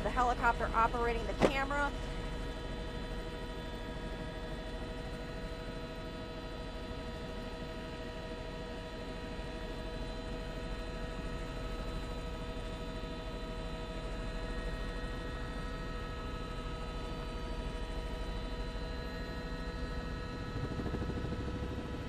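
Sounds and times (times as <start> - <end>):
constant whining tones: 0.0 - 22.0
helicopter cabin drone: 0.0 - 22.0.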